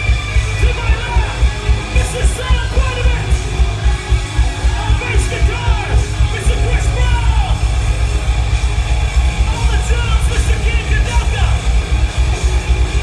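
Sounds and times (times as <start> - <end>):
hard rock band playing: 0.0 - 13.0.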